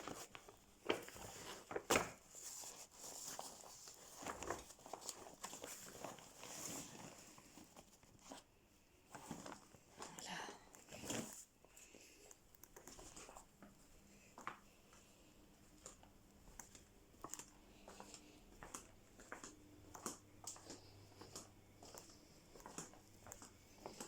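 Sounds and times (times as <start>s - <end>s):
light rustles of handling: 0.0s - 24.0s.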